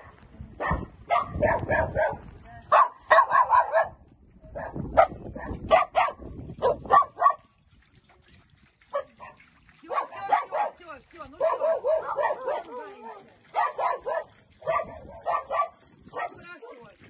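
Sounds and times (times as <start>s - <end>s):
dogs barking: 0.0s - 7.5s, 8.9s - 10.8s, 11.4s - 16.4s.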